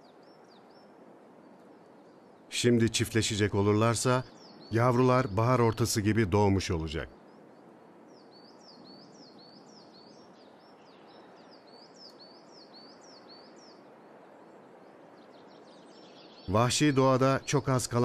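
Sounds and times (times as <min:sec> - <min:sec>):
forest ambience hiss: 0:00.0 - 0:18.0
songbird chirping: 0:00.0 - 0:18.0.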